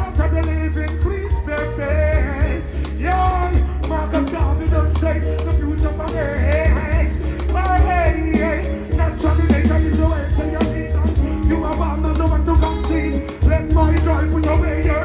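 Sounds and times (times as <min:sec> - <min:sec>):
deep heavy bass line: 0:00.0 - 0:15.0
person singing: 0:00.0 - 0:15.0
reggae band playing: 0:00.0 - 0:15.0.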